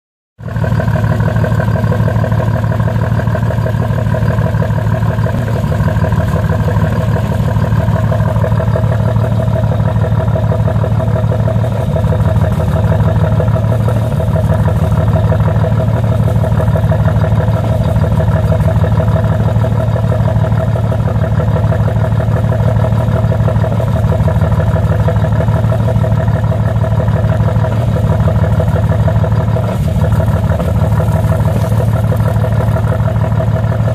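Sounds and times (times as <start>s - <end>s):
diesel engine idling with clatter: 0.4s - 33.9s.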